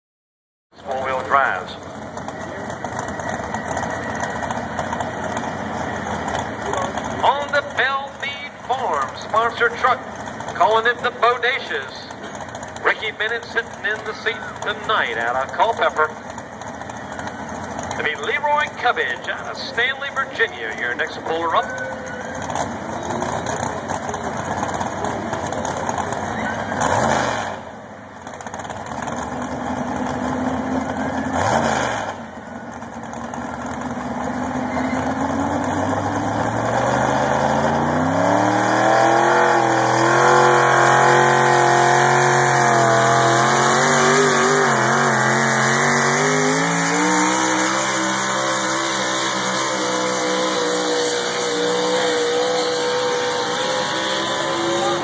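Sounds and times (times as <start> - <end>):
tractor engine revving: 0.8 - 55.0.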